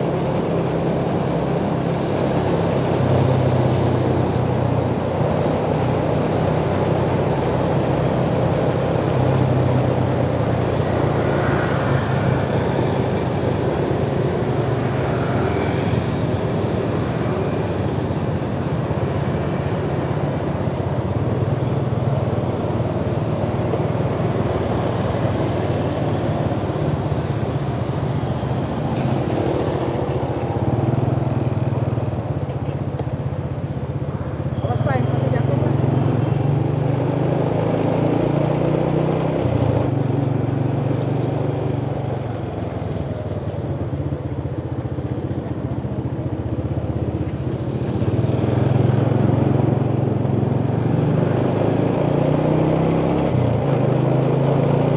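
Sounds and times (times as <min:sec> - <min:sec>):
road and traffic noise: 0:00.0 - 0:54.9.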